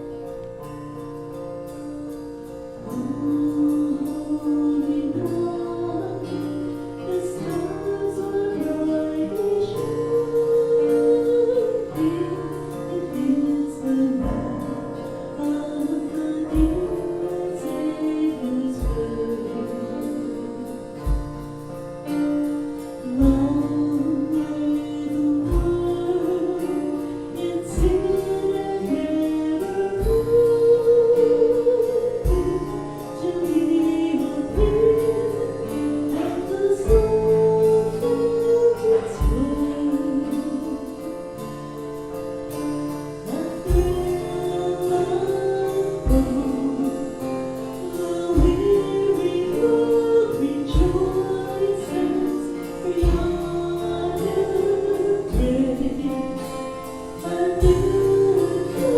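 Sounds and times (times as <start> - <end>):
solo voice singing slow melody: 2.7 - 58.9.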